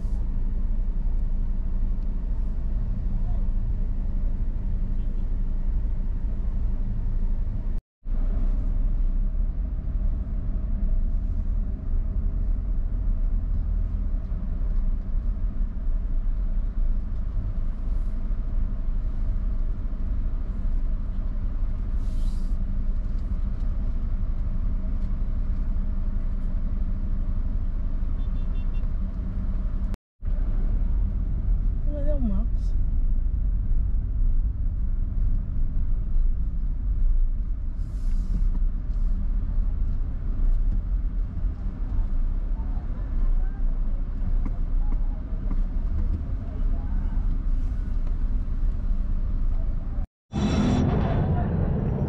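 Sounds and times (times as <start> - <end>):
vehicle engine and road noise: 0.0 - 52.0.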